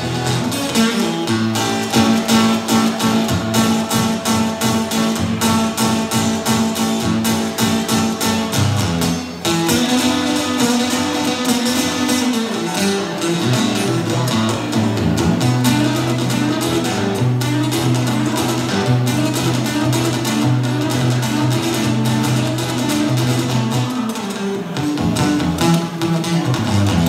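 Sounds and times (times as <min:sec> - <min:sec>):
acoustic guitar blues: 0:00.0 - 0:27.0.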